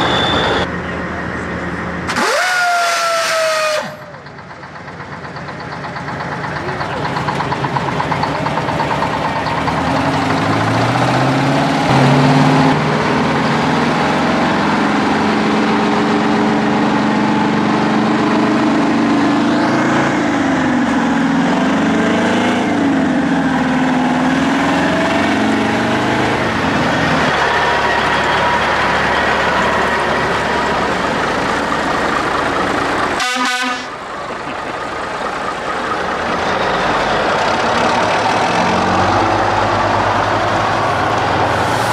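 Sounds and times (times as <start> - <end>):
diesel truck engines running: 0.0 - 41.9.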